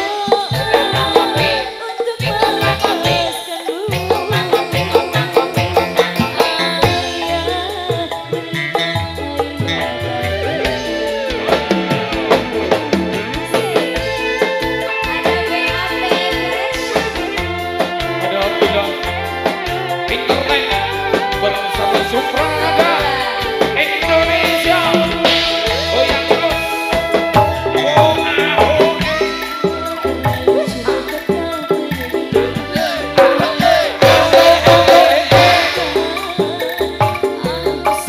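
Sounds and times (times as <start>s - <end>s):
electric guitar melody: 0.0s - 38.0s
hand drums: 0.0s - 38.0s
keyboard: 0.0s - 38.0s
live band playing: 0.0s - 38.0s.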